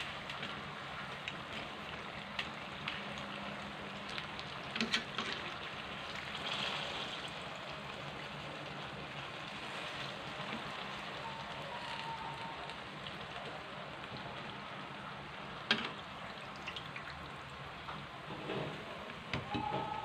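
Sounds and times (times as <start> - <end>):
deep-frying sizzle and crackle: 0.0 - 20.0.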